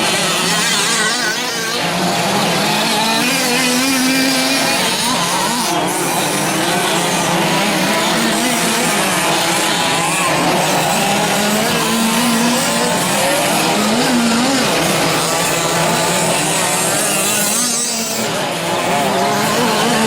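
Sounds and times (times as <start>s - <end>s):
small two-stroke engines revving: 0.0s - 20.0s.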